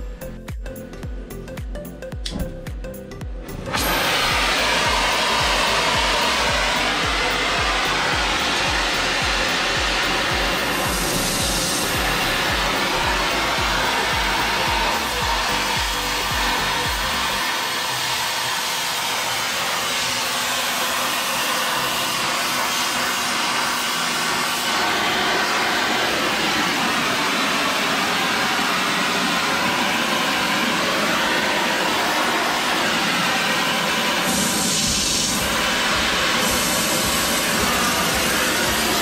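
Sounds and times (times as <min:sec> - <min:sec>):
gas torch flame hissing: 0:03.7 - 0:39.0.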